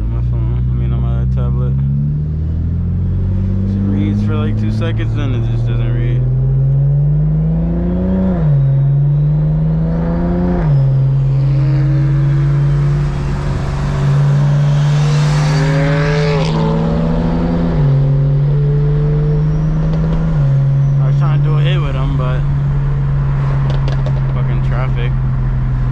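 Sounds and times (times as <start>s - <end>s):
car engine accelerating: 0.0s - 25.9s.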